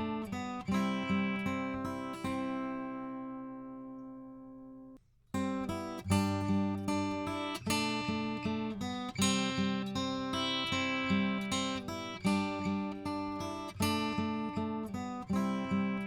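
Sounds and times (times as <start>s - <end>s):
acoustic guitar strumming: 0.0s - 4.7s, 5.4s - 16.0s.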